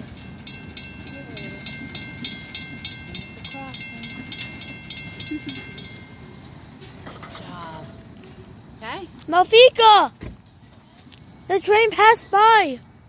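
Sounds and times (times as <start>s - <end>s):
train wheels clicking: 0.0s - 12.1s
train rumble: 0.0s - 13.0s.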